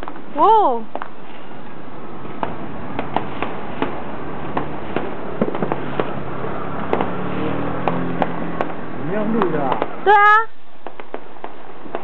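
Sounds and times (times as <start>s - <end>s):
fireworks popping: 0.0s - 12.0s.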